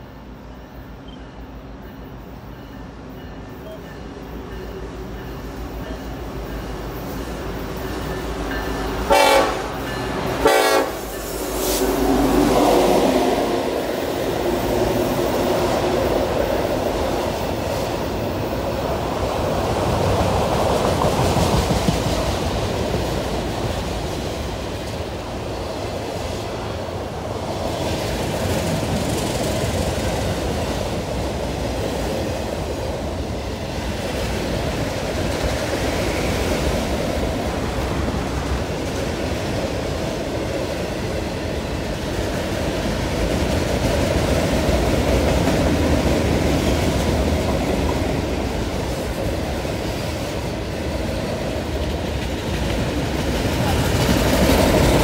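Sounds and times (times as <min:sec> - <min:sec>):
freight train rumble and rattle: 0:00.0 - 0:55.0.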